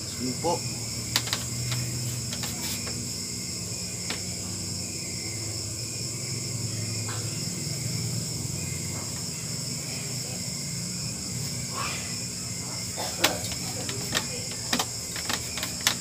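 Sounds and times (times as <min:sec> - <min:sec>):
night insects chorus: 0:00.0 - 0:16.0.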